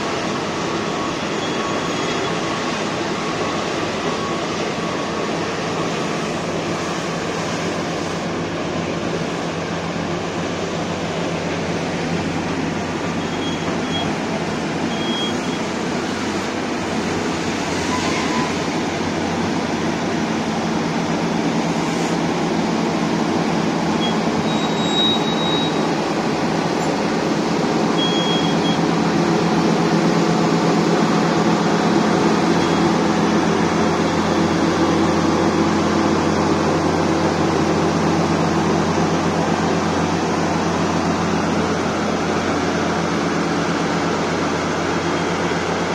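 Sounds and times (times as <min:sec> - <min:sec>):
diesel engine drone: 0:00.0 - 0:45.9
excavator hydraulics working: 0:00.0 - 0:45.9.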